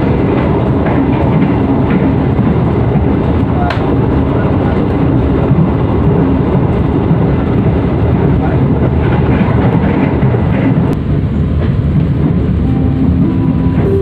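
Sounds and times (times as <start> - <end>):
train coach rumbling on rails: 0.0 - 14.0.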